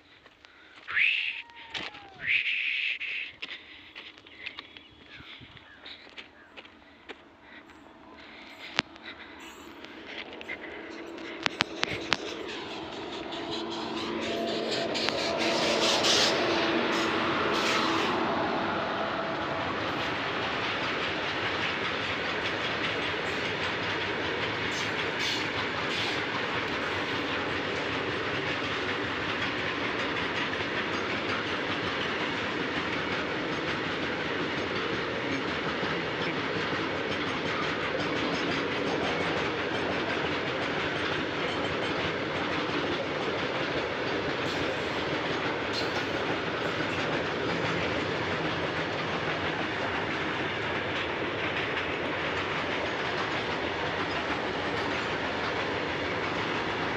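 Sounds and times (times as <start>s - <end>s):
train wheels running on rails: 0.0s - 56.9s.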